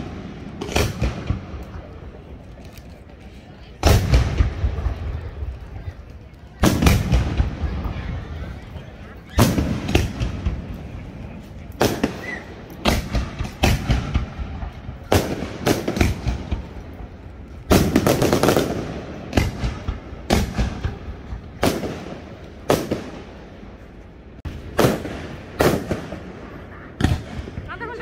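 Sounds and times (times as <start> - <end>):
fireworks bursting with echo: 0.0 - 28.0.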